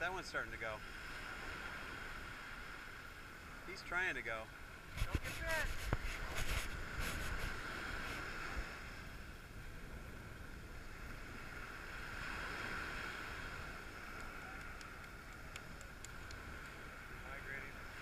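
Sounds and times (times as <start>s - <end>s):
gentle surf: 0.0s - 18.0s
wind: 0.0s - 18.0s.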